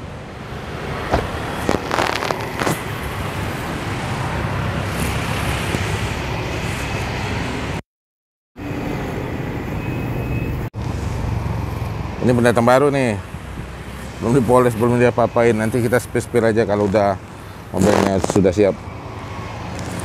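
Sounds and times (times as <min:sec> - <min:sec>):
street traffic hum: 0:00.0 - 0:07.8, 0:08.6 - 0:20.0.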